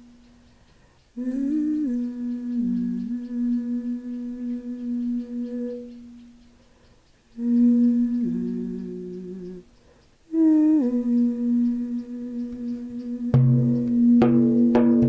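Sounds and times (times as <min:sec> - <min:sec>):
woman humming into a drum: 0:01.1 - 0:06.5, 0:07.3 - 0:15.0.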